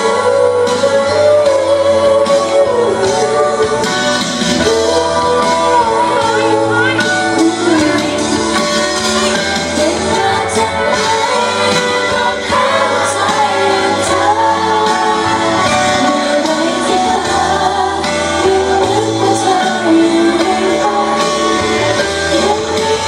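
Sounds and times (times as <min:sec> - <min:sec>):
woman singing into microphone: 0:00.0 - 0:23.0.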